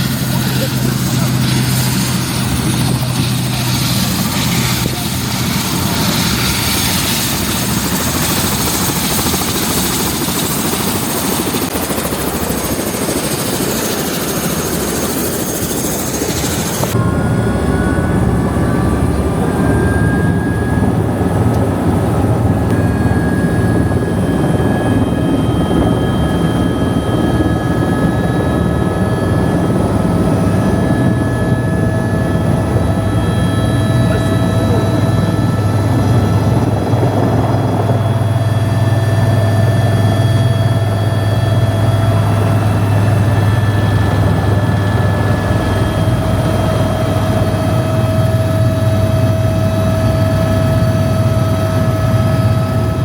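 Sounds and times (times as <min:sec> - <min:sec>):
helicopter engine and rotor: 0:00.0 - 0:53.0.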